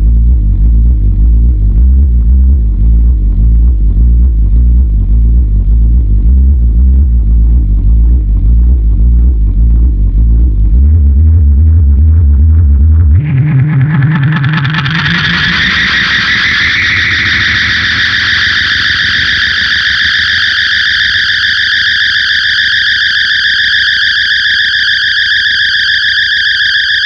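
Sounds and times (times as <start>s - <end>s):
distorted electric guitar drone: 0.0s - 27.0s.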